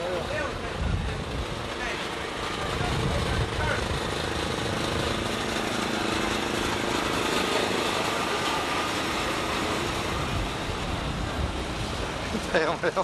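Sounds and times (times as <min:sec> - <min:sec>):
go-kart engines buzzing: 0:00.0 - 0:13.0.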